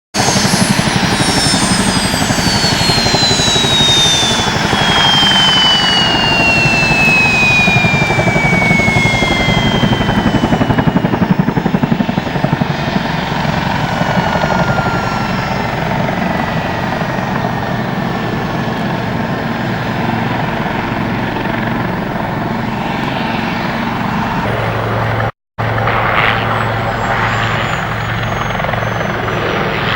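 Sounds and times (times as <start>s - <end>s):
helicopter rotor chop: 0.2s - 29.9s
high turbine whine: 0.2s - 29.9s.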